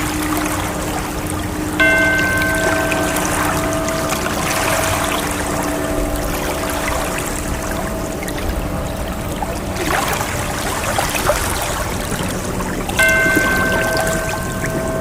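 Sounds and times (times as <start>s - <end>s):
low steady drone: 0.0s - 15.0s
ocean water washing: 0.0s - 15.0s
sustained musical chord: 0.0s - 15.0s.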